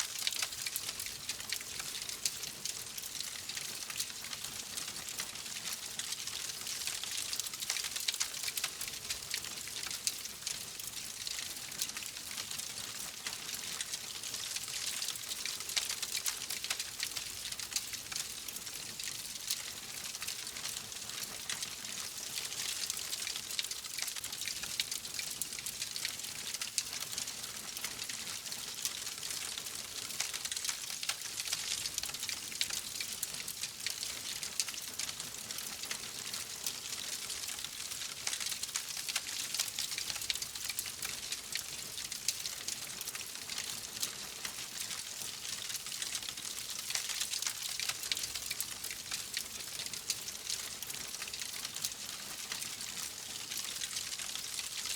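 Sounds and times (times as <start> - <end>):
wood fire crackling: 0.1 - 4.3, 5.1 - 44.9.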